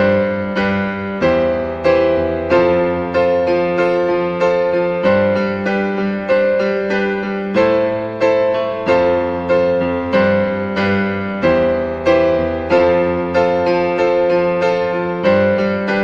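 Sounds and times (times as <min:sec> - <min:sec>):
piano notes and chords: 0:00.0 - 0:16.0.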